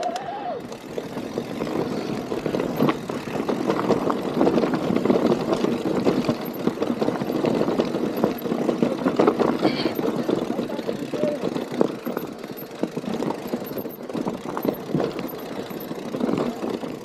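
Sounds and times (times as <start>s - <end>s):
bike clicking and rattling: 0.0s - 17.0s
bike tyres rolling on dirt: 0.0s - 17.0s.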